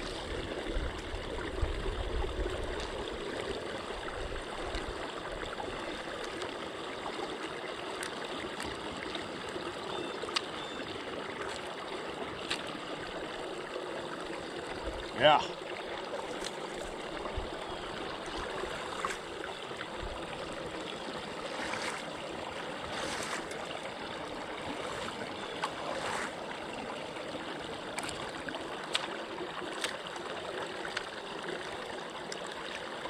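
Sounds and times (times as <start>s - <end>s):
water rushing down a drain pipe: 0.0s - 33.0s.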